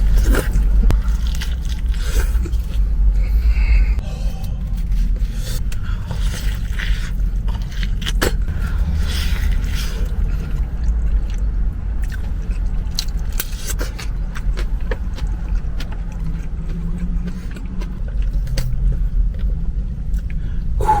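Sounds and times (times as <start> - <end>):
person chewing food: 0.0 - 21.0
steady low rumble: 0.0 - 21.0.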